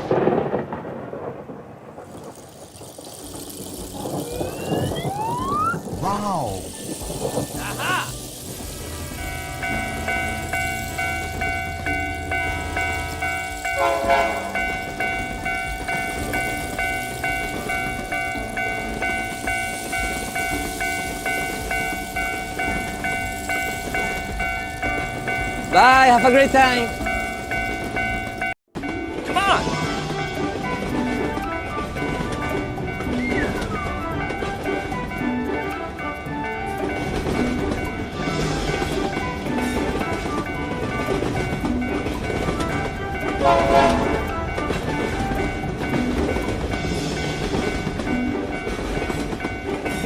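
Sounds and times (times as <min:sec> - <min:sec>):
train rumble: 0:03.2 - 0:50.0
level crossing bell ringing: 0:04.1 - 0:50.0.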